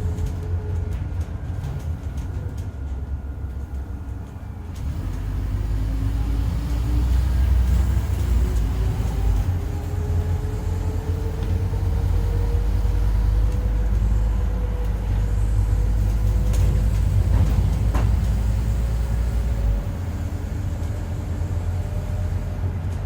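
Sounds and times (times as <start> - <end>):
bus engine rumble: 0.0 - 23.0
howling whine: 0.0 - 23.0.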